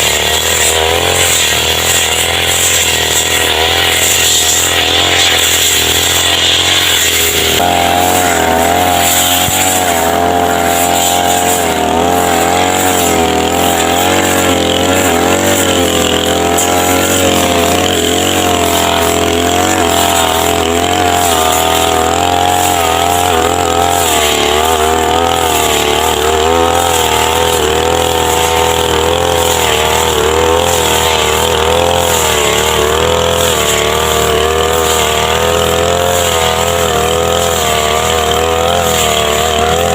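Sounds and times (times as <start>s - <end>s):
grass cutter engine running: 0.0s - 39.9s.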